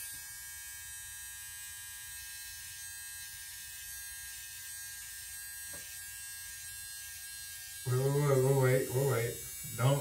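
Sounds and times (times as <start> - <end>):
electric hair trimmer humming: 0.0 - 10.0.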